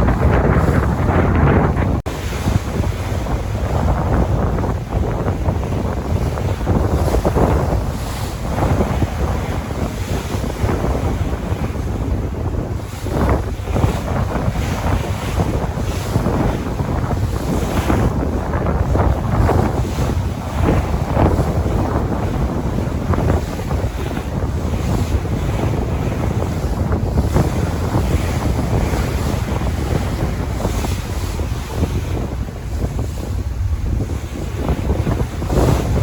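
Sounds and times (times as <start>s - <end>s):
sea waves breaking: 0.0s - 36.0s
wind buffeting microphone: 0.0s - 36.0s.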